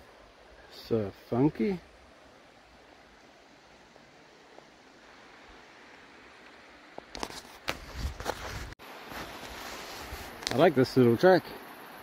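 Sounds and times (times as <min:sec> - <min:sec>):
river rushing: 0:00.0 - 0:07.2, 0:08.8 - 0:12.0.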